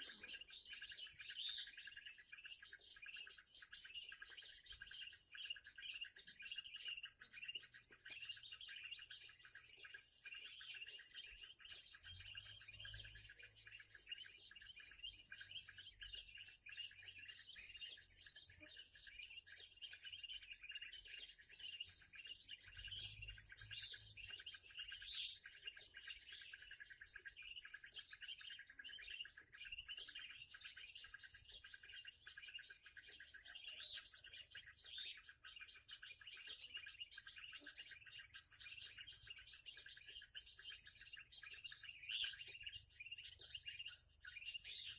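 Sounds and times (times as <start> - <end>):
small birds chirping rapidly: 0.0 - 44.9.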